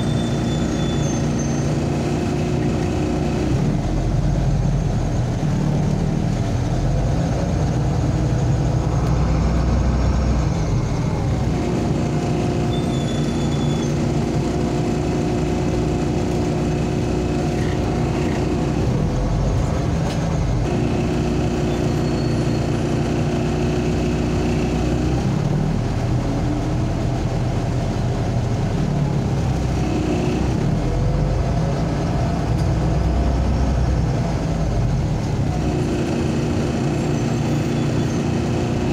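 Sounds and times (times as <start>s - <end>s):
bus engine drone: 0.0s - 38.9s
road noise: 0.0s - 38.9s.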